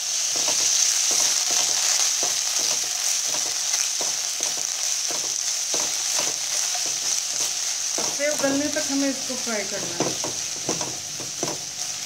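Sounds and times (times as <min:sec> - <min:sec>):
apple sizzling in a pan: 0:00.0 - 0:12.0
spatula stirring and scraping: 0:00.2 - 0:12.0.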